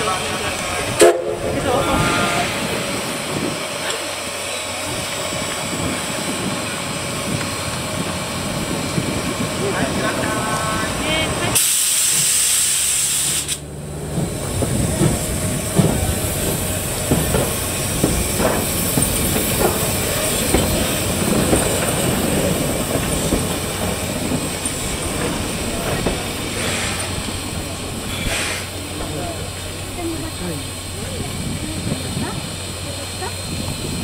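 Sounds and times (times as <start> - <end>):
locomotive wheels clanking: 0.0 - 34.0.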